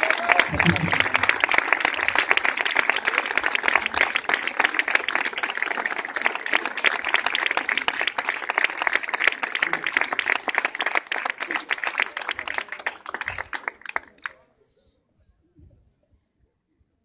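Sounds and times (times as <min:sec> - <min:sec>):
crowd applauding: 0:00.0 - 0:14.4.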